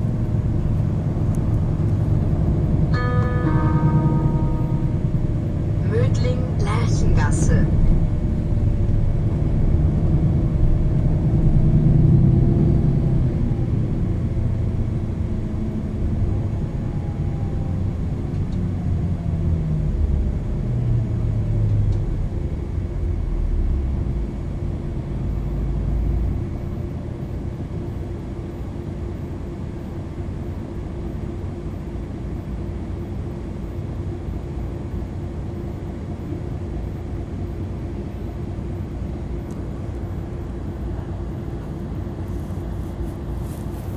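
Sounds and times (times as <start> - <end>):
bus diesel engine with gearbox whine: 0.0 - 43.9.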